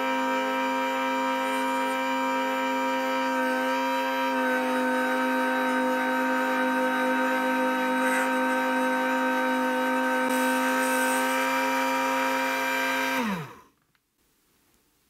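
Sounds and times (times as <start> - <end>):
motor spinning down: 0.0 - 13.6
electric motor whining: 0.0 - 13.7.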